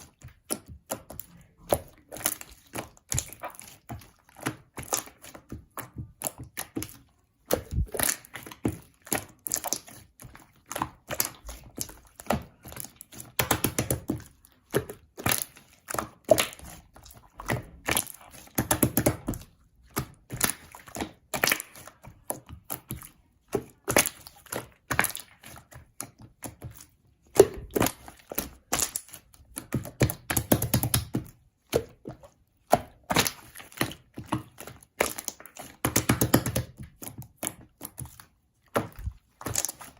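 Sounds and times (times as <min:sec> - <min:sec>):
slime squelching and popping: 0:00.0 - 0:39.9.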